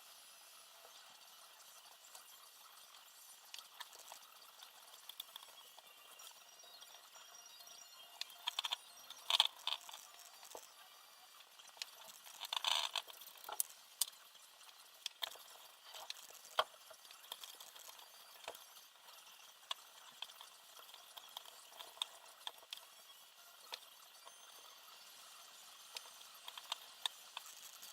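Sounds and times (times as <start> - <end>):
small parts clicking and tapping: 0.8 - 6.4, 8.2 - 24.6, 25.4 - 27.9.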